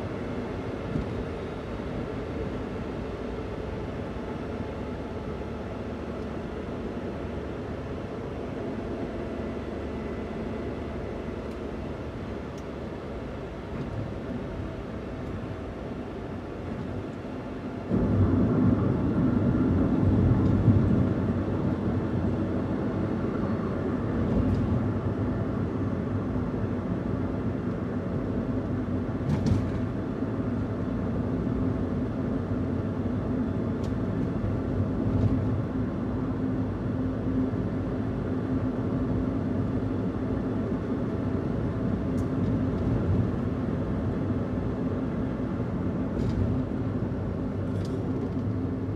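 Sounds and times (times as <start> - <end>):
van engine running: 0.0 - 48.9.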